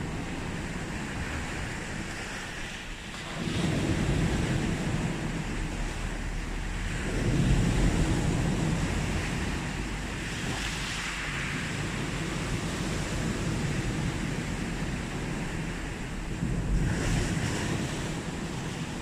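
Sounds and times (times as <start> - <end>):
sea waves washing onto beach: 0.0 - 19.0.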